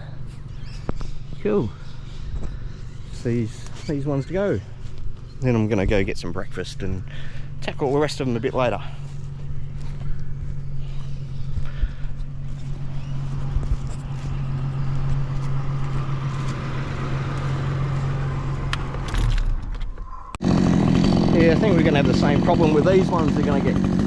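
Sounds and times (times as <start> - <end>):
engine idling: 0.0 - 19.8, 20.4 - 24.0.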